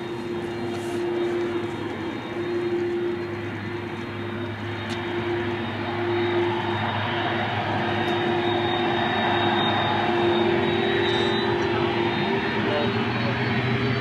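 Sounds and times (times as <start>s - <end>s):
jet engines rumbling with whine: 0.0s - 14.0s.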